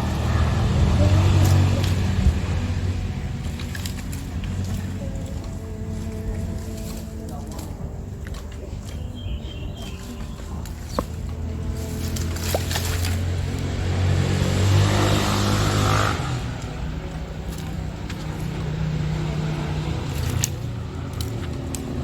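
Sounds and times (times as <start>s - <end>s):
vehicle engine passing by: 0.0s - 22.0s.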